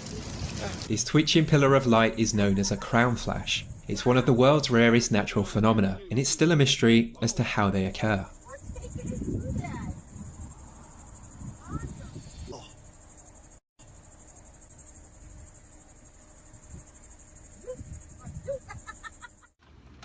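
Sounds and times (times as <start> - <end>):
insects chirping: 0.0 - 19.6.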